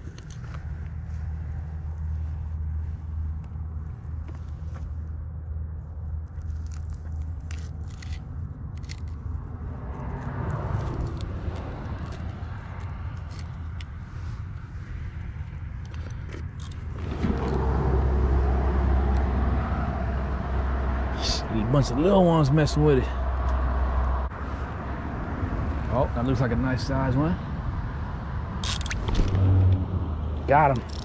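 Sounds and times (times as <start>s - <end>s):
low rumble: 0.0s - 26.2s, 27.5s - 31.0s.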